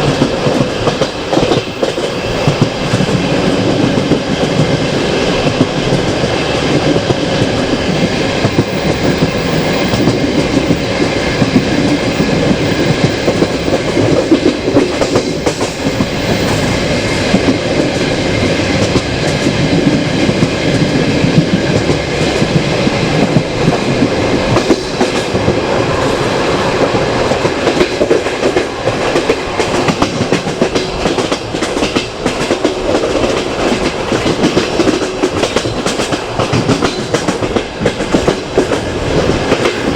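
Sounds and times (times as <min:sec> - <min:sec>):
train wheels rolling over rails: 0:00.0 - 0:39.9.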